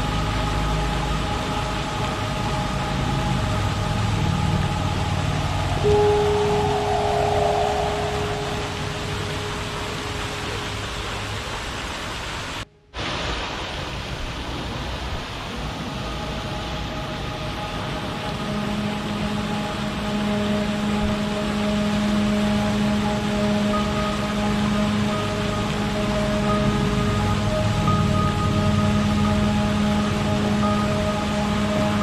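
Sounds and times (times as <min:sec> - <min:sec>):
ambient music tones: 0:00.0 - 0:12.8, 0:15.5 - 0:32.0
rain-like hiss: 0:00.0 - 0:32.0.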